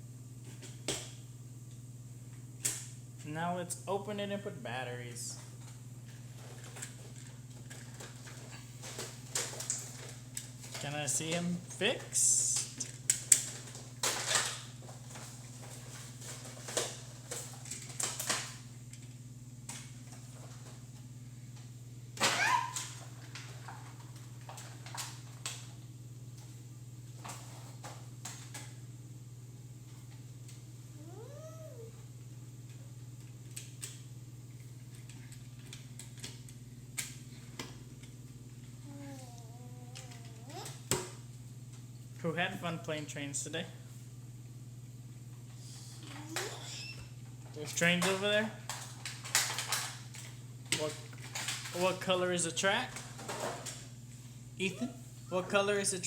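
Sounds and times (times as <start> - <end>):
steady low hum: 0.0 - 22.2, 23.0 - 56.0.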